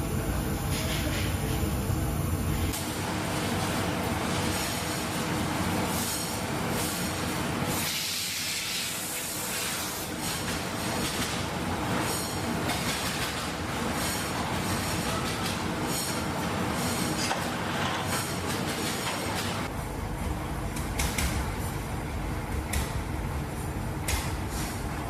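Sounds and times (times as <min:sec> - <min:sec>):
factory machinery noise: 0:00.0 - 0:25.0.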